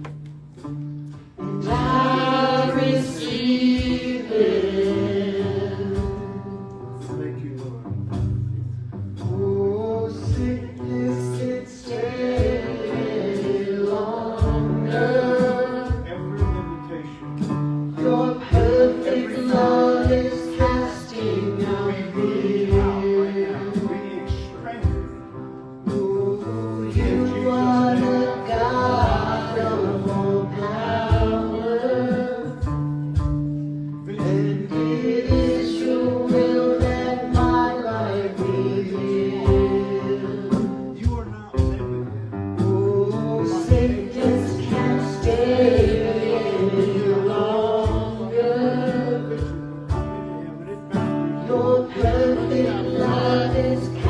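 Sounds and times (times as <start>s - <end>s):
guitar: 0.0s - 54.0s
gospel choir singing: 1.4s - 7.0s, 9.6s - 17.2s, 17.9s - 33.2s, 34.1s - 41.2s, 42.6s - 54.0s.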